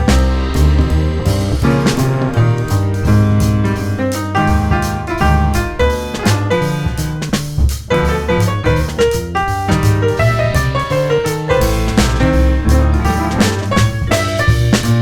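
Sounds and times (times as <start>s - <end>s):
light drum beat: 0.0s - 15.0s
relaxing piano music: 0.0s - 15.0s.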